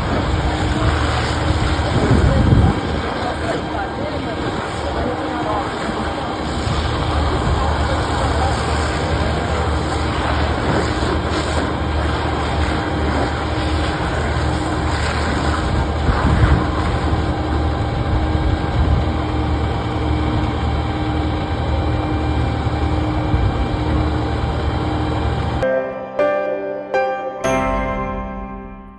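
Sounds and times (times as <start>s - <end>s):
heavy engine idling: 0.0s - 25.6s.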